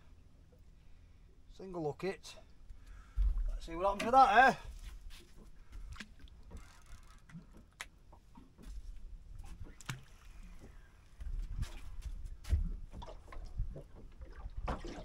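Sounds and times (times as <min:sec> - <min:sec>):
water lapping against boat hull: 0:02.5 - 0:15.0.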